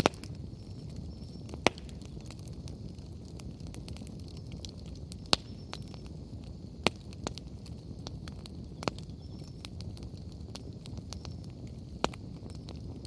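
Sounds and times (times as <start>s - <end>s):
bonfire crackling: 0.0s - 13.0s
firewood popping: 0.0s - 13.0s.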